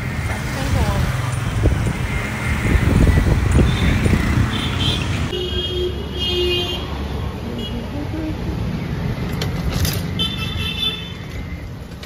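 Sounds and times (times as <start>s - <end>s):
motorbikes and cars passing: 0.0s - 12.0s.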